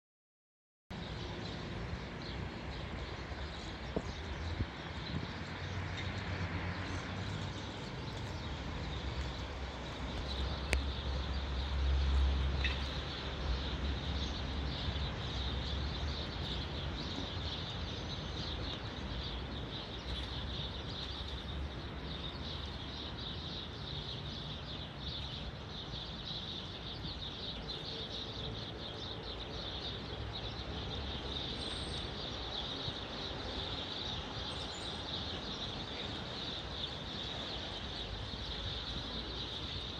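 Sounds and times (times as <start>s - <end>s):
small birds chirping: 1.0s - 39.9s.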